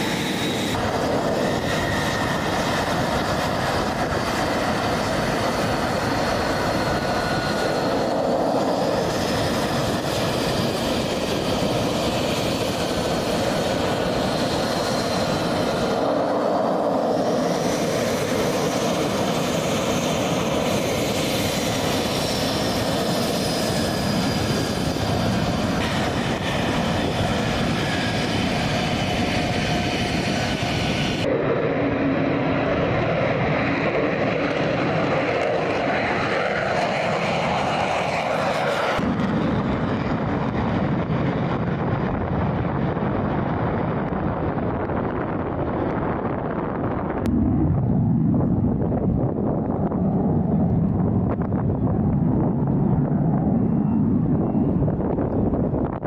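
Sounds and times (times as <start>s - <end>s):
jet engine rumble and whine: 0.0s - 56.0s.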